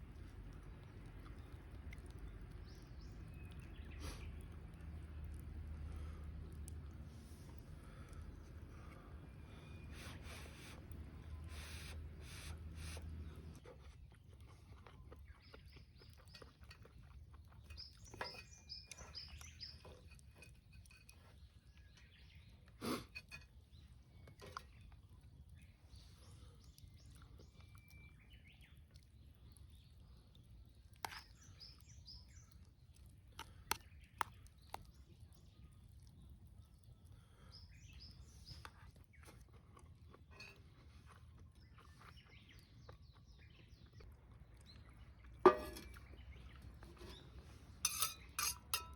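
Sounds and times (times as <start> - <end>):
birds chirping: 0.5 - 6.9, 7.5 - 48.9.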